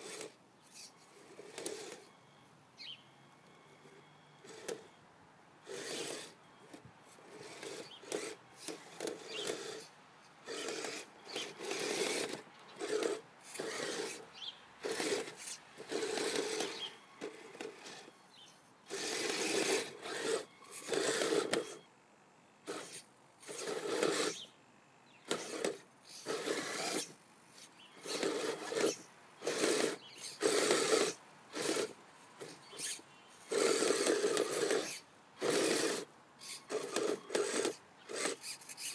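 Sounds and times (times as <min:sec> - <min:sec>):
toy electric motors and tracks: 0:00.0 - 0:05.0, 0:05.6 - 0:21.9, 0:22.6 - 0:24.5, 0:25.2 - 0:38.9.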